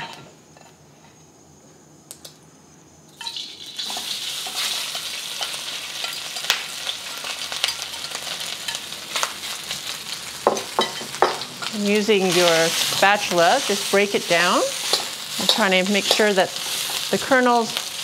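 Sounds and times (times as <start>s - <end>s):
oil sizzling in a wok: 3.1s - 18.0s.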